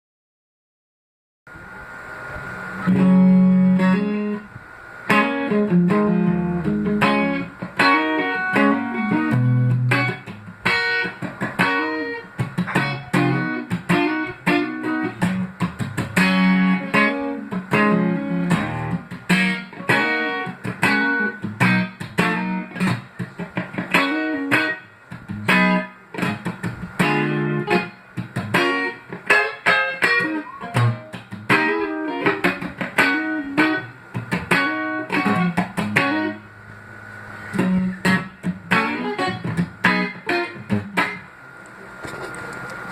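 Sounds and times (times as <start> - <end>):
electric guitar playing: 2.0 - 41.6.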